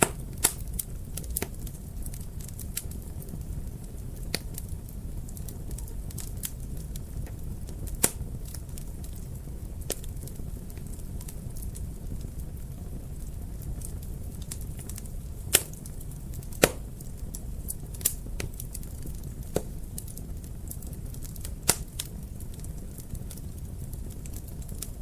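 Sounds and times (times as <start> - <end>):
fire flames rumbling: 0.0 - 25.0
fire pops and crackles: 0.0 - 25.0.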